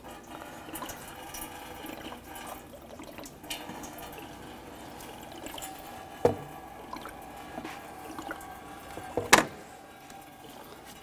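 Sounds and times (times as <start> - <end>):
coolant trickling and dripping: 0.0 - 11.0.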